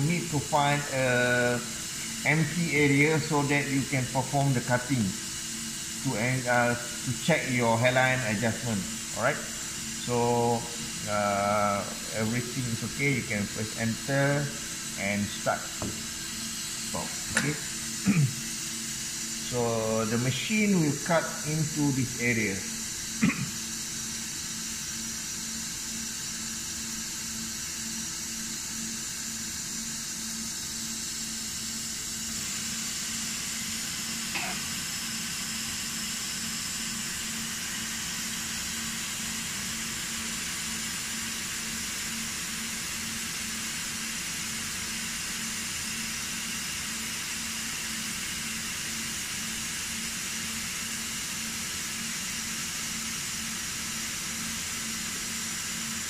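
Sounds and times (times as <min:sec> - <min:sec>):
dicing saw spindle and water spray hiss: 0:00.0 - 0:56.0.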